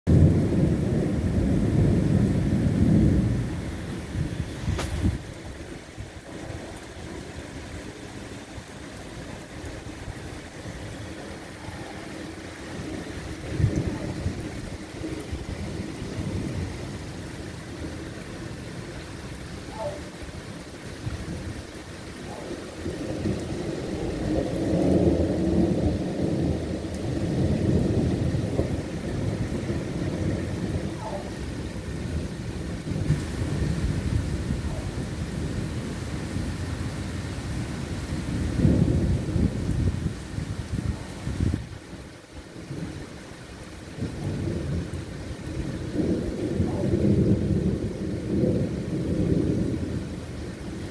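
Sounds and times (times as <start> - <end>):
rolling thunder: 0.1 - 18.8, 19.4 - 41.8, 43.9 - 50.9
rain falling on trees: 0.1 - 50.9.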